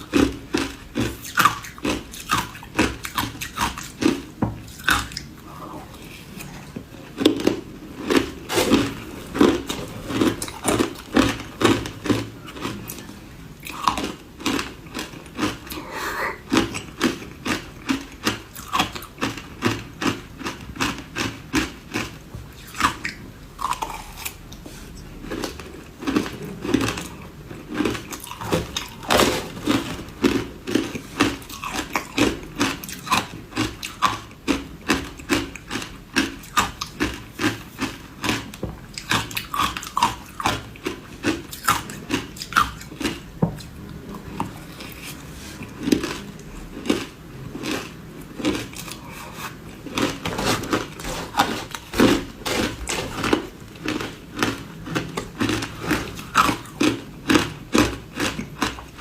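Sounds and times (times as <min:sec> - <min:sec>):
ice crunching while chewed: 0:00.0 - 0:24.6, 0:25.2 - 0:59.0.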